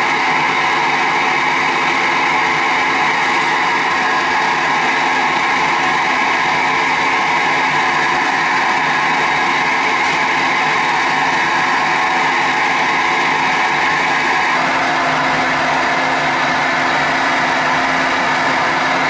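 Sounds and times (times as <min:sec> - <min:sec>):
lathe motor whine: 0:00.0 - 0:19.0.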